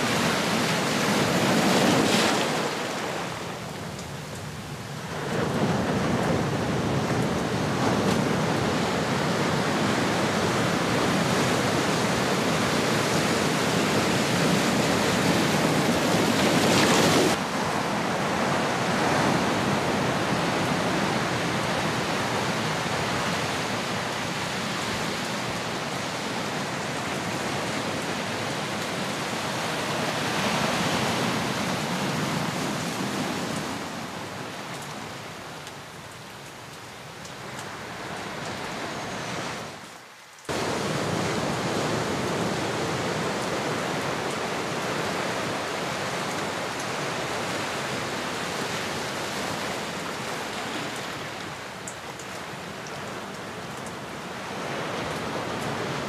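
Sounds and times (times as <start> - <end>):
ocean waves washing: 0.0 - 35.5, 40.5 - 56.0.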